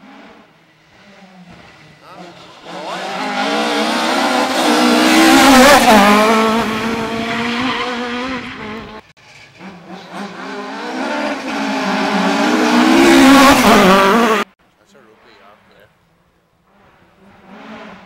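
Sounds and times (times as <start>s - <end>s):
rally car engine approaching: 0.0s - 15.9s
rally car engine passing: 0.0s - 15.9s, 16.6s - 18.0s.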